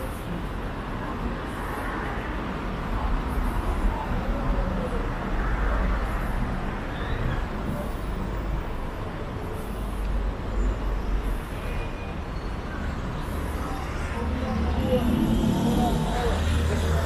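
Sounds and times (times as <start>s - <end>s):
passing cars: 0.0s - 17.0s.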